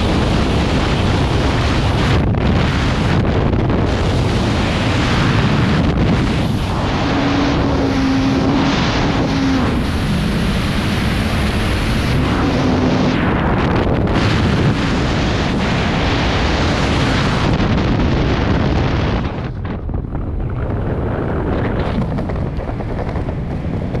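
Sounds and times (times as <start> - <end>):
wind roaring over microphone: 0.0 - 24.0.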